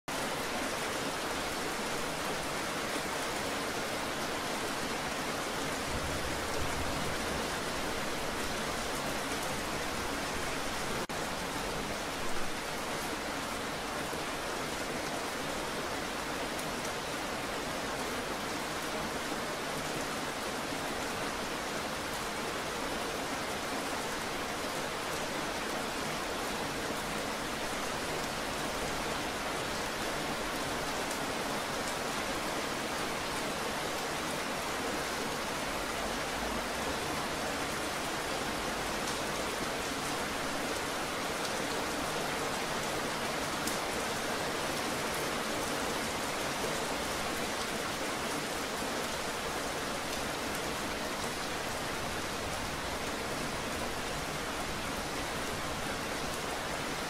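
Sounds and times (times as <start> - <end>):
rain splashing on wet surface: 0.1 - 57.0.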